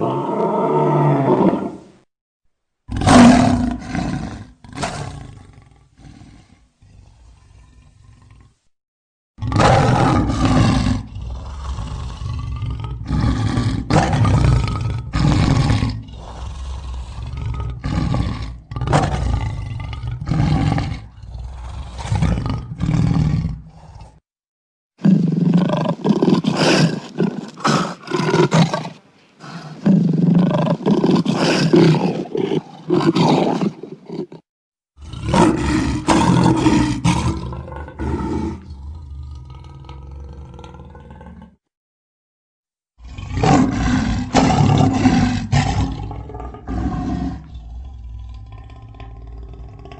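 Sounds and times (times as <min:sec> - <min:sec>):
lion roaring: 0:00.0 - 0:01.9, 0:02.9 - 0:08.6, 0:09.4 - 0:24.2, 0:25.0 - 0:34.4, 0:35.0 - 0:41.6, 0:43.0 - 0:49.9.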